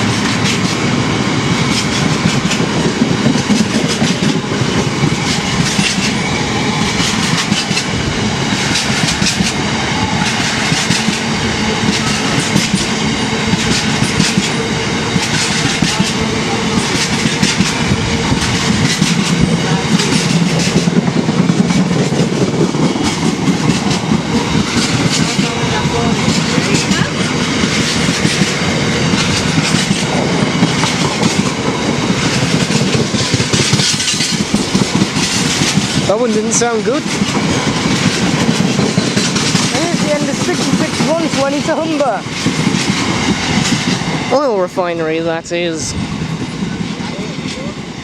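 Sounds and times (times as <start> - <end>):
train wheels clattering over rail joints: 0.0 - 44.6.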